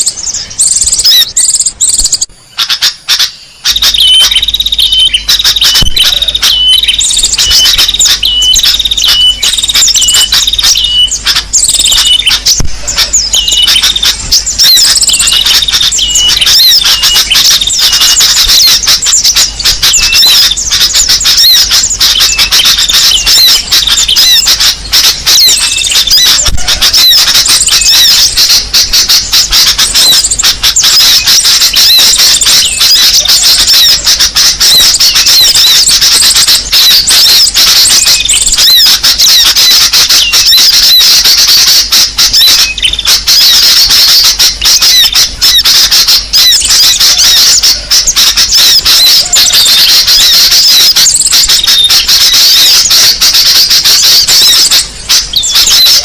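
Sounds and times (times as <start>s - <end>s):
small birds chirping and squeaking: 0.0s - 56.0s.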